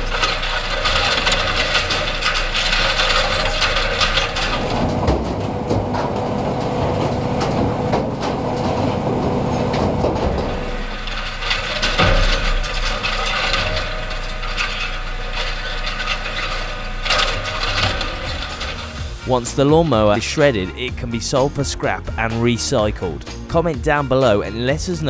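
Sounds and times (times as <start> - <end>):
shredder grinding metal and plastic: 0.0 - 21.0
sharp cracks and clanks: 0.0 - 21.4.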